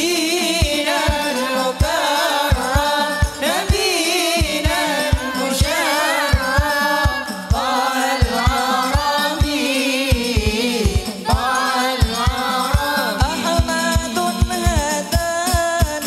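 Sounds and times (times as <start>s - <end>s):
hand drum ensemble: 0.0s - 16.0s
person singing devotional melody: 0.0s - 16.0s.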